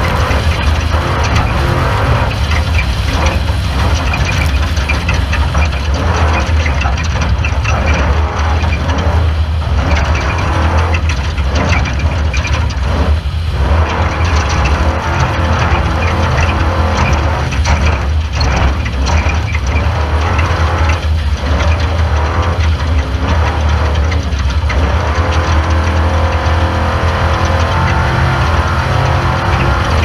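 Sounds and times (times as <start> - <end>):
chassis rattling and clatter: 0.0 - 30.0
truck engine rumble: 0.0 - 30.0.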